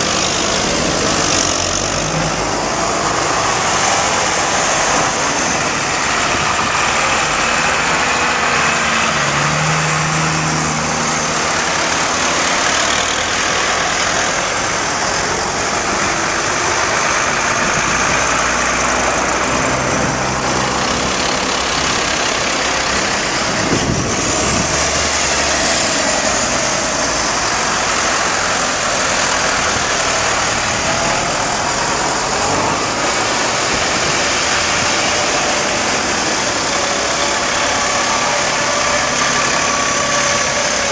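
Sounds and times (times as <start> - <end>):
tractor engines driving past: 0.0 - 40.9.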